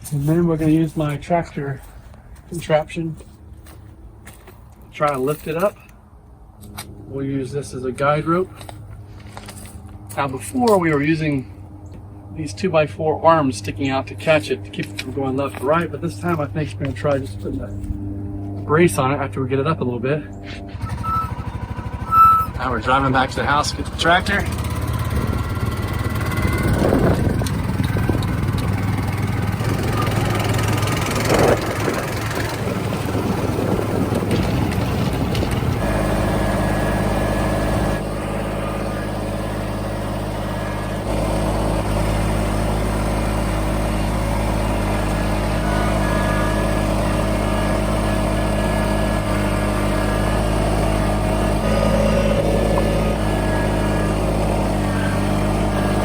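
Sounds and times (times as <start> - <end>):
vehicle engine running: 6.6 - 56.0.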